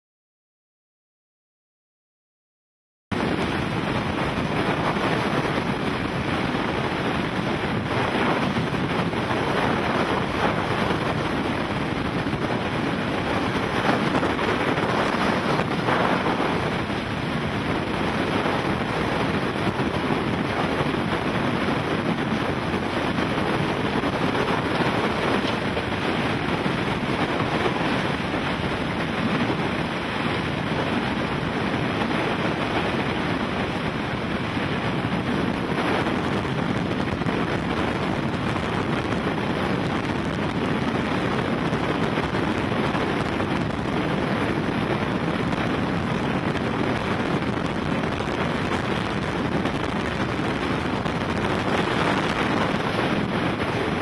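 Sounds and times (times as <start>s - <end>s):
strong wind on microphone: 3.1s - 54.0s.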